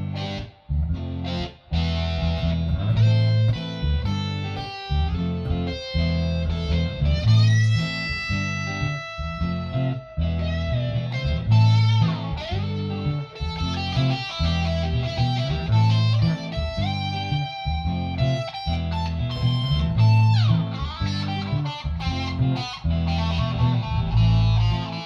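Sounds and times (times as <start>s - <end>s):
electric guitar playing a shuffle: 0.0s - 25.0s
repeating low bass line: 0.0s - 25.0s.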